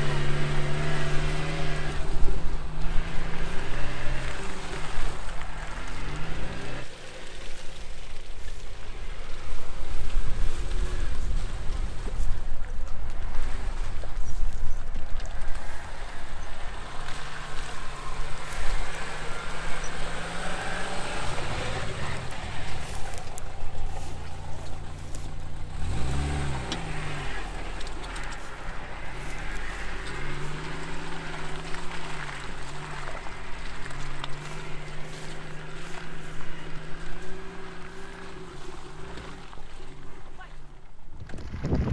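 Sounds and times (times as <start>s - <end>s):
car engine revving: 0.0s - 41.9s
rough noisy rumble: 0.0s - 41.9s.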